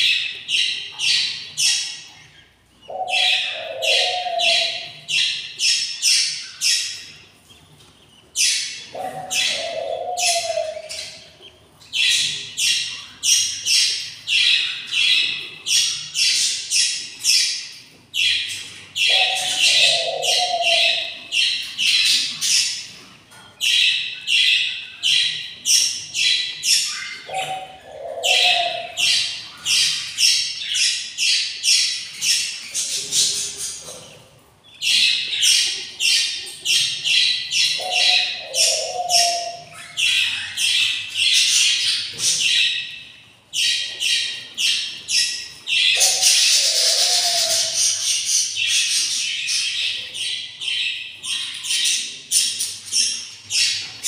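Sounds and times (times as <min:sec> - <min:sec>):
chicks rasping high chirps: 0:00.0 - 0:54.0.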